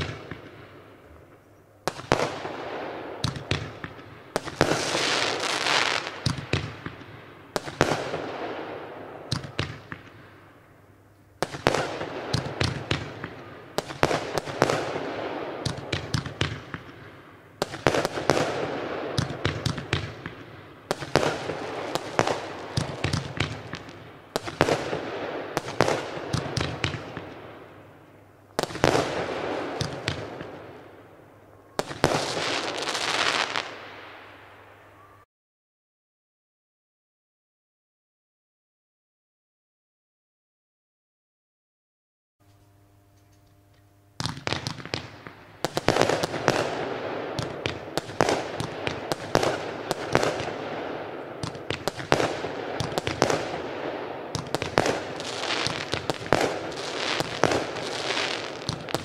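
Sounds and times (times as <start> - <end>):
fireworks bursting and crackling: 0.0 - 10.5, 11.4 - 28.0, 28.6 - 31.2, 31.8 - 34.6, 44.2 - 59.0.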